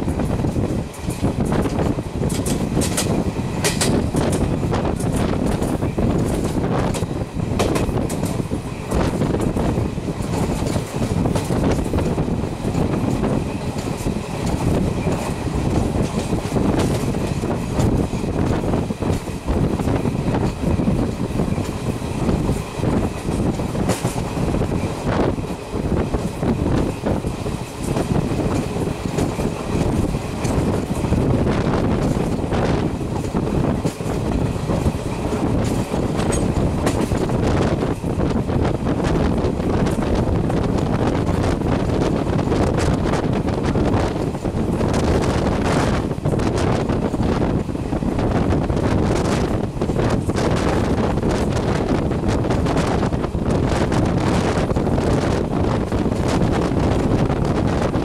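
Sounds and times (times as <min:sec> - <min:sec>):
train coaches rumbling past: 0:00.0 - 0:58.0
wheels clicking over rail joints: 0:00.0 - 0:58.0
wind buffeting microphone: 0:00.0 - 0:58.0.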